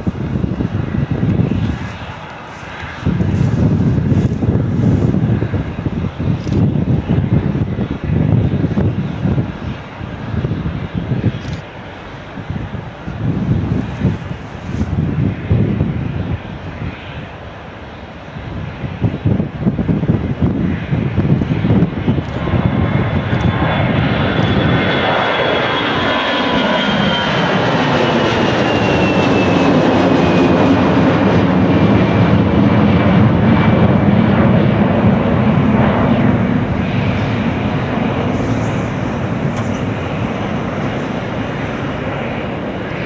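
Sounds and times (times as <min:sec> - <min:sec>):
jet engines at takeoff: 0:00.0 - 0:43.0.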